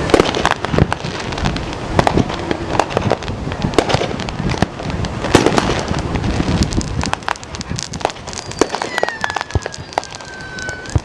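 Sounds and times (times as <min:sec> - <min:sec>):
fireworks bangs pops and crackles: 0:00.0 - 0:11.0.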